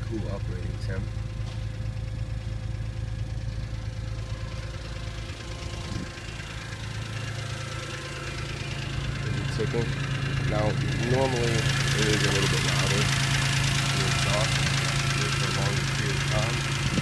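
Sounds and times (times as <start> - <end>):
car engine idling: 0.0 - 17.0
cold engine ticking: 0.0 - 17.0.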